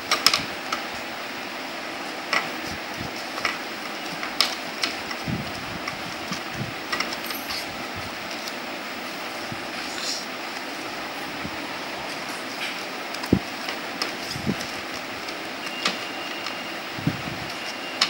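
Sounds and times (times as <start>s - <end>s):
paper being folded: 2.0s - 18.0s.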